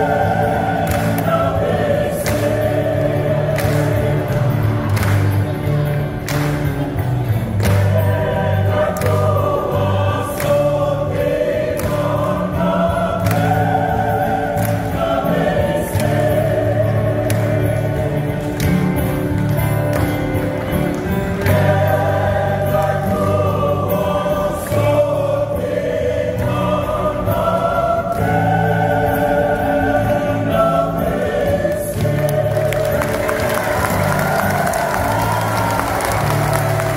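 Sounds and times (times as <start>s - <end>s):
choir singing in harmony: 0.0s - 5.4s, 7.2s - 19.5s, 20.8s - 36.9s.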